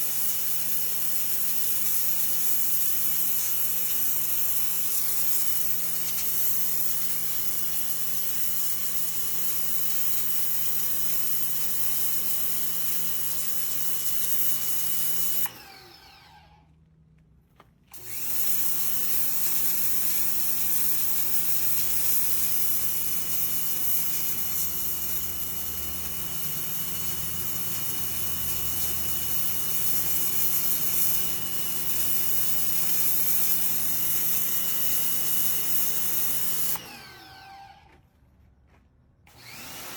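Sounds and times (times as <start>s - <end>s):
pressure washer motor humming: 0.0s - 16.6s, 17.9s - 37.9s, 39.3s - 39.9s.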